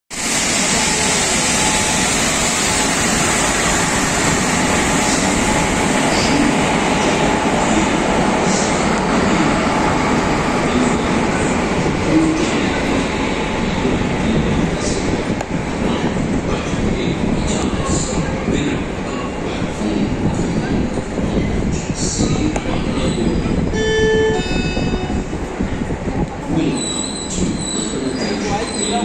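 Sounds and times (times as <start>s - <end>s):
train rolling over rails: 0.1s - 29.0s.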